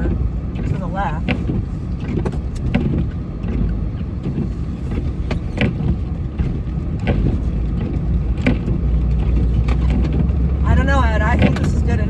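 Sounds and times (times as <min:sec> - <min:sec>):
sharp knocks and rattles: 0:00.0 - 0:10.6
truck engine and road rumble: 0:00.0 - 0:12.0.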